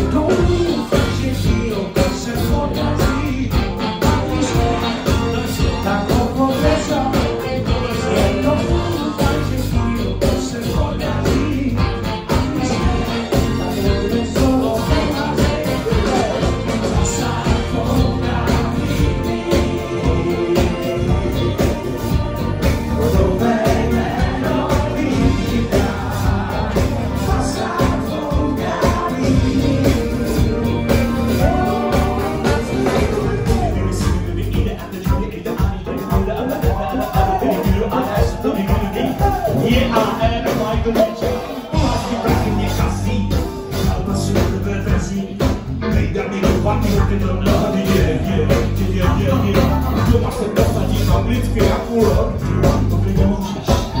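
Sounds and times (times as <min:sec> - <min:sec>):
bass guitar: 0:00.0 - 0:54.0
live band playing loudly: 0:00.0 - 0:54.0
saxophones and trombone: 0:00.0 - 0:54.0
steady drum beat: 0:00.0 - 0:54.0
voices singing: 0:00.0 - 0:54.0.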